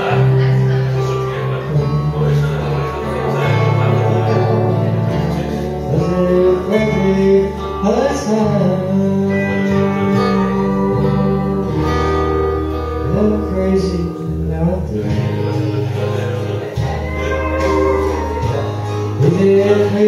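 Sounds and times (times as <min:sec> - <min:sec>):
acoustic guitar playing chords: 0:00.0 - 0:20.0
man singing into a microphone: 0:00.0 - 0:20.0.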